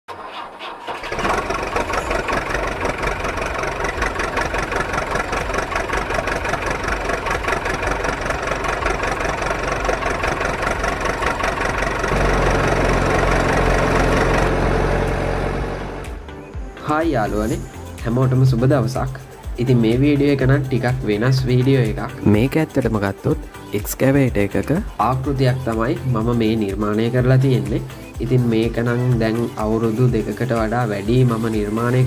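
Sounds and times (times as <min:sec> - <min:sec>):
engine starting and running: 0:00.0 - 0:32.0.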